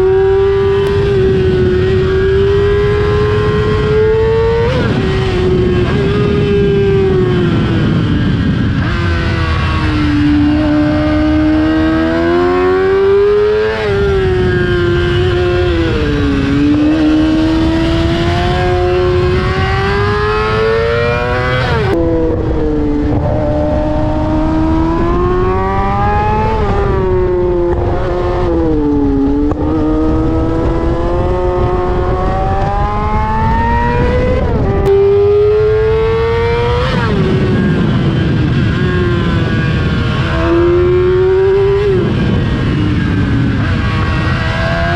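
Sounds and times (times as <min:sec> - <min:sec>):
motorcycle engine revving high: 0:00.0 - 0:44.9.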